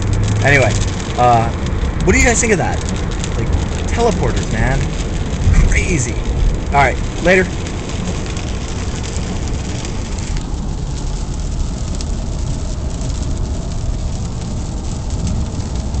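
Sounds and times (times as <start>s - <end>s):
car interior low rumble: 0.0s - 16.0s
tyre hiss on wet road: 0.0s - 16.0s.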